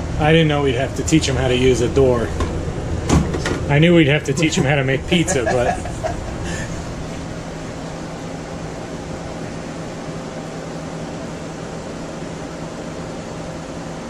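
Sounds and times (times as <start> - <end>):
fans hissing: 0.0 - 14.0
low machinery hum: 0.0 - 14.0.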